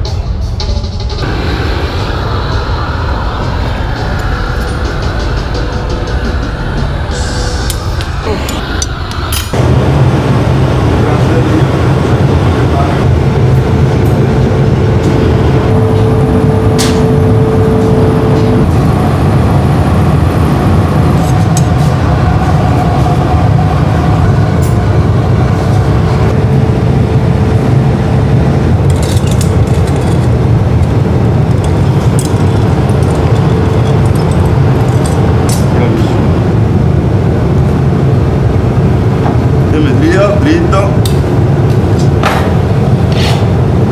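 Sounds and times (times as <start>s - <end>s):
furnace roaring: 0.0s - 43.9s
faint steady hum: 1.2s - 43.9s.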